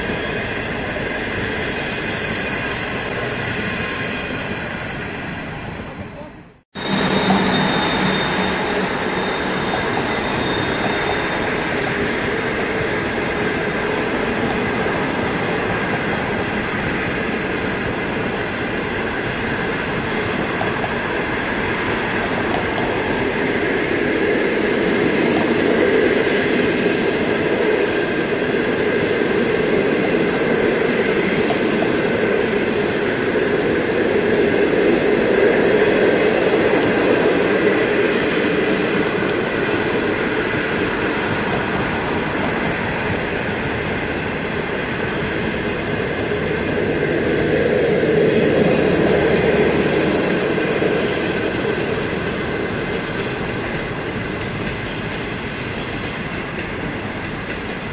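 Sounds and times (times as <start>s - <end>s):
electric locomotive hum: 0.0s - 57.9s
train wheels on rails: 0.0s - 57.9s.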